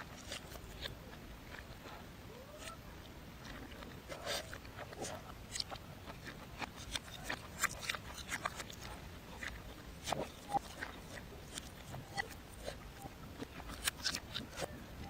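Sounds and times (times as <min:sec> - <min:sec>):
reversed chewing mouth noises: 0:00.0 - 0:15.0.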